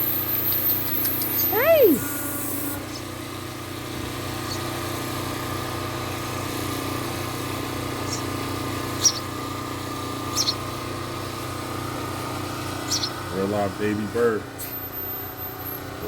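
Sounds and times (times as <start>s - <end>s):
steady motor hum: 0.0s - 16.0s.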